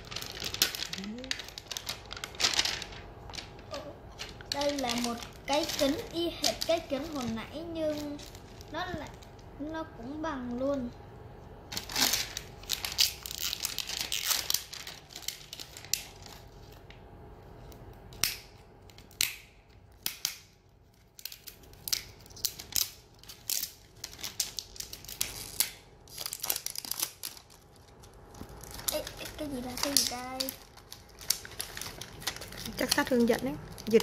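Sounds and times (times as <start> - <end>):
paper crinkling and ripping: 0.0 - 9.2, 11.7 - 16.9, 21.1 - 34.0.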